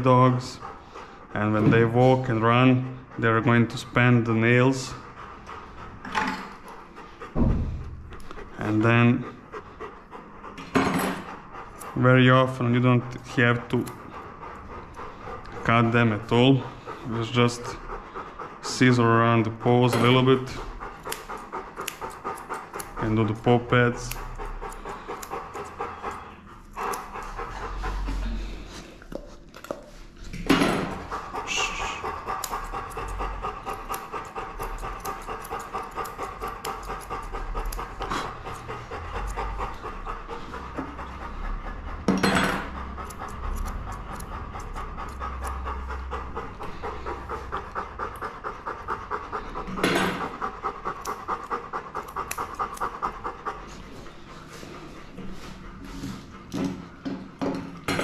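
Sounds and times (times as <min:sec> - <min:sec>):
dog panting: 0:00.0 - 0:58.0.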